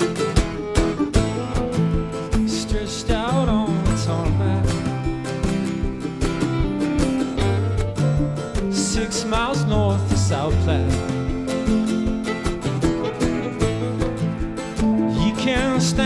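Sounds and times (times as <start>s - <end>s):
plucked strings: 0.0s - 16.0s
steady drum beat: 0.0s - 16.0s
bass line: 1.1s - 16.0s.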